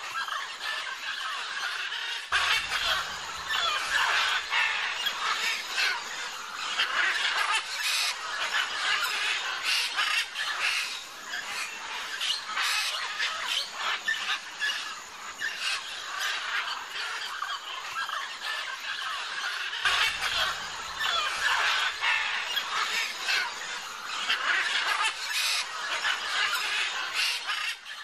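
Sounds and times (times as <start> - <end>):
flock of macaws squawking: 0.0 - 28.0.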